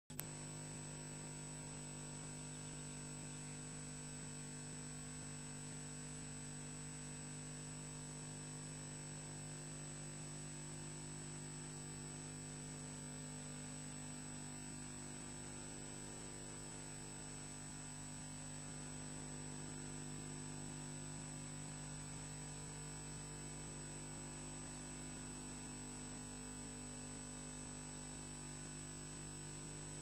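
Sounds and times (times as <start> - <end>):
electrical hum: 0.1 - 30.0.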